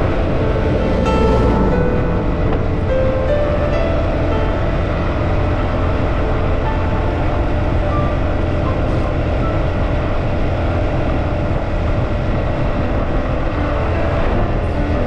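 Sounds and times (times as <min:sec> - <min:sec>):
vehicle road noise: 0:00.0 - 0:15.0
wind rushing over microphone: 0:00.0 - 0:15.0.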